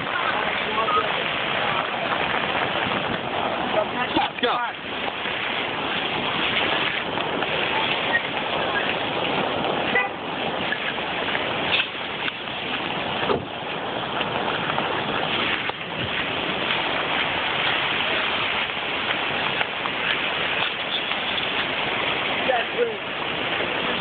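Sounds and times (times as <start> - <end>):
river current roaring: 0.0 - 24.0.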